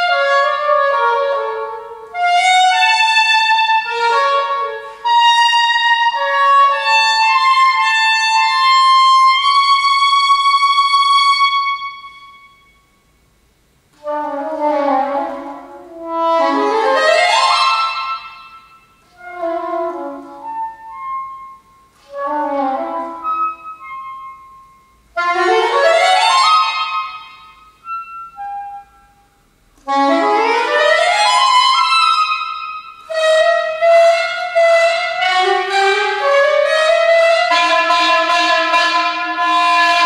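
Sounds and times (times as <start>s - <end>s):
solo saxophone: 0.0s - 12.8s, 13.9s - 40.0s.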